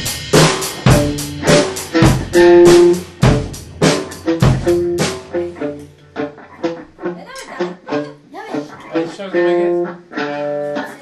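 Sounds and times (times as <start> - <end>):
drum kit beat: 0.0 - 11.0
rock band playing: 0.0 - 11.0.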